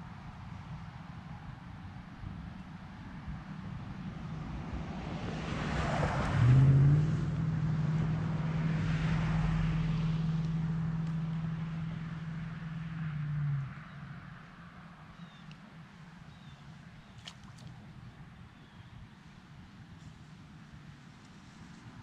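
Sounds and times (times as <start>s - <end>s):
passing engine hum: 0.0s - 22.0s.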